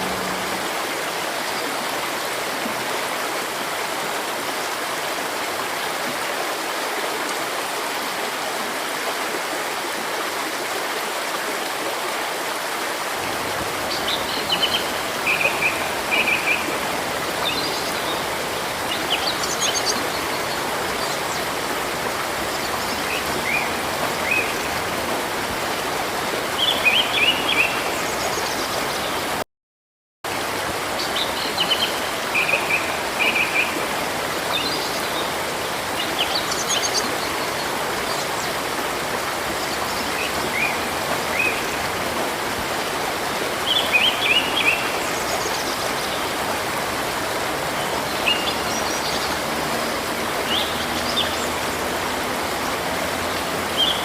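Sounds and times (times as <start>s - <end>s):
river water running: 0.0s - 29.4s, 30.3s - 54.0s.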